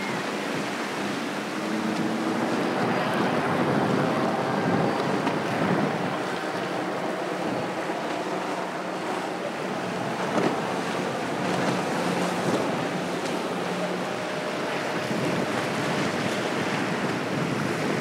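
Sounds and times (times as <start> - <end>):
outboard motor running: 0.0 - 18.0
whitewater wash and chop: 0.0 - 18.0
wind buffeting microphone: 0.0 - 18.0.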